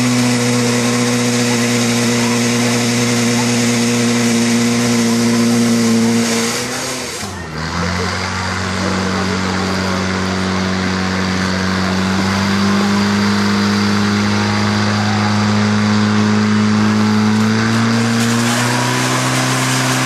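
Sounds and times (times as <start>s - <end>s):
pump engine running at high revs: 0.0s - 20.0s.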